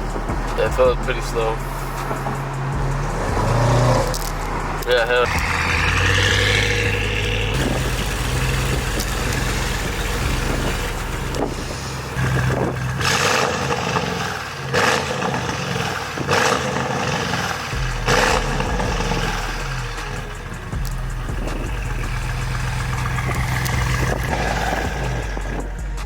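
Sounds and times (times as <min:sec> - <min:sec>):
car engine low drone: 0:00.0 - 0:26.0
loud exhaust bursts: 0:00.0 - 0:26.0.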